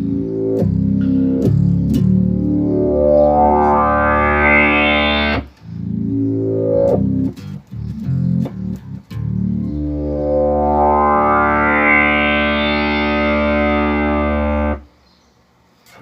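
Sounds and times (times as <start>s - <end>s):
synth-like bass guitar notes: 0.0s - 14.8s.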